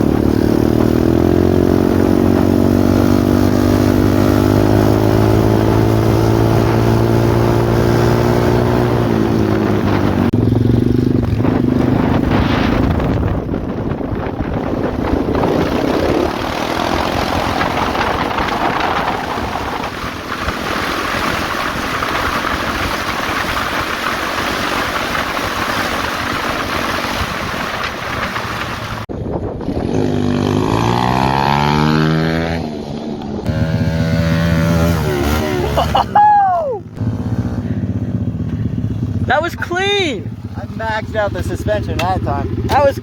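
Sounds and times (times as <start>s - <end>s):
faint engine running: 0.0s - 29.1s, 33.2s - 36.2s, 36.8s - 43.0s
pit bike engine revving: 0.0s - 29.1s, 29.7s - 43.0s
wind rushing over microphone: 0.0s - 39.3s.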